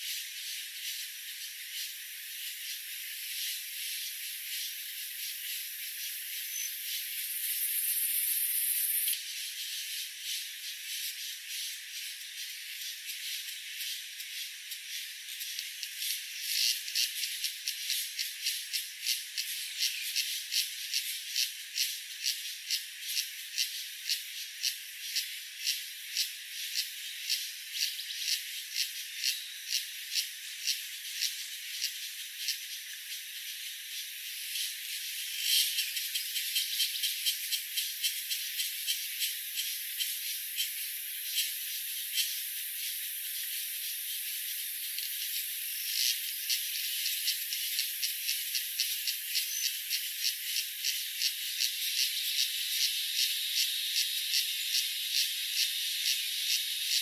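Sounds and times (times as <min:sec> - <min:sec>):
high insect hiss: 0:00.0 - 0:57.0
insect chirps: 0:00.0 - 0:57.0.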